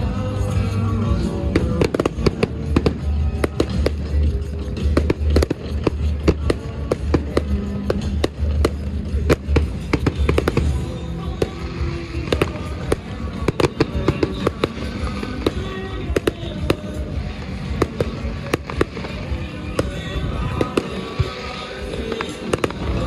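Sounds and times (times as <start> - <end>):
fireworks bangs and crackles: 0.0 - 23.0
music with heavy bass: 0.0 - 23.0.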